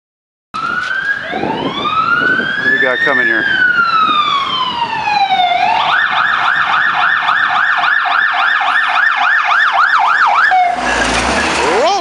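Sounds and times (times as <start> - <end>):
fire truck siren yelping: 0.6 - 12.0.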